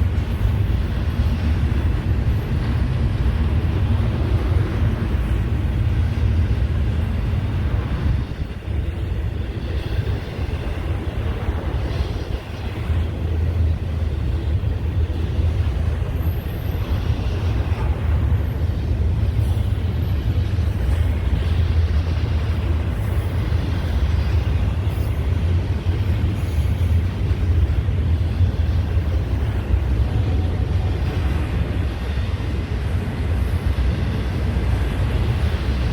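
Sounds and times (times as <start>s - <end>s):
freight train rolling past: 0.0s - 35.9s.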